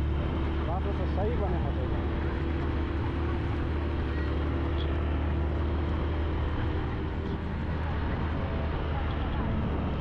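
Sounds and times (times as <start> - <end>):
road and wind noise: 0.0 - 10.0
vehicle engine humming: 0.0 - 10.0.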